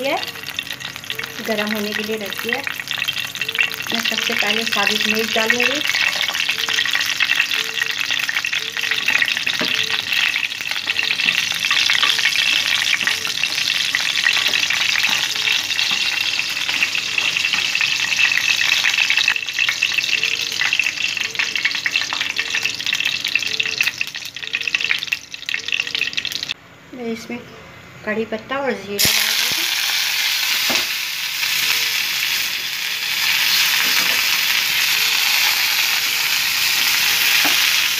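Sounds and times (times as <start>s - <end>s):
chillies sizzling in hot oil: 0.0s - 26.6s, 29.0s - 37.9s.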